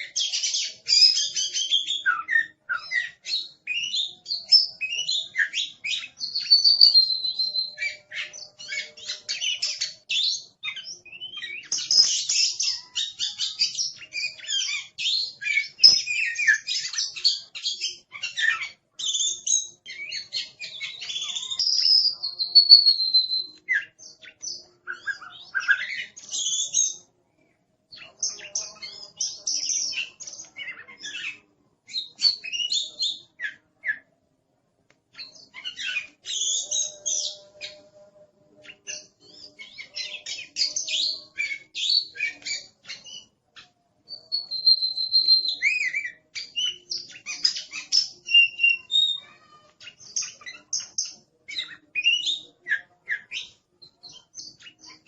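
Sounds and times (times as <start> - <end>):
songbird chirping and whistling: 0.0 - 27.1, 27.9 - 34.1, 35.1 - 55.0.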